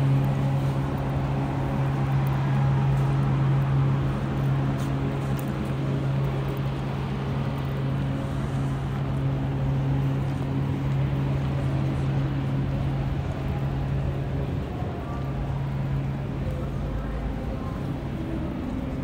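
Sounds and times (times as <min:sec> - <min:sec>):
city street noise: 0:00.0 - 0:19.0
low mechanical hum: 0:00.0 - 0:19.0.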